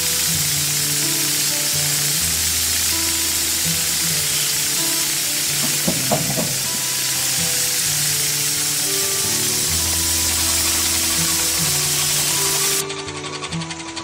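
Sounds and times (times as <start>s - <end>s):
background music with low notes: 0.0s - 14.0s
steam hissing: 0.0s - 14.0s.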